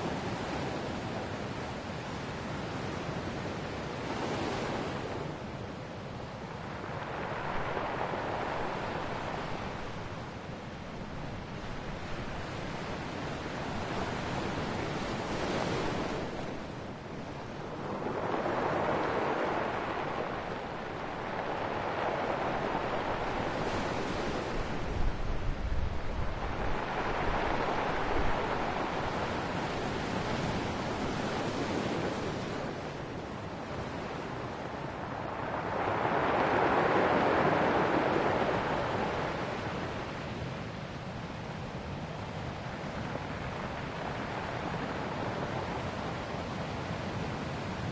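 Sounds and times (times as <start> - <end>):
ocean waves breaking on shore: 0.0 - 47.9.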